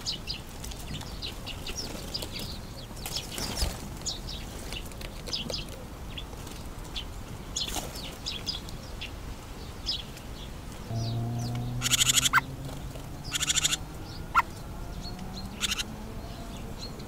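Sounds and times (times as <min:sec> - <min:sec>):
low background noise: 0:00.0 - 0:17.0
small birds chirping: 0:00.0 - 0:17.0.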